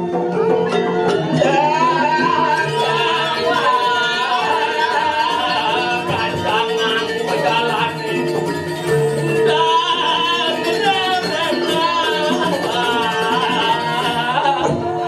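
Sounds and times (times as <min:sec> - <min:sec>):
person singing ornamented melody: 0:01.4 - 0:08.5, 0:09.4 - 0:15.0.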